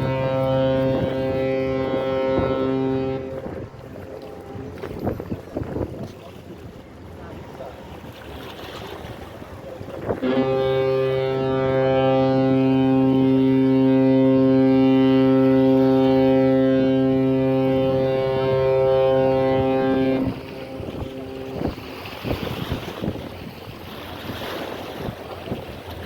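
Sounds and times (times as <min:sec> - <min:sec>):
ship's horn long deep blast: 0:00.0 - 0:26.0.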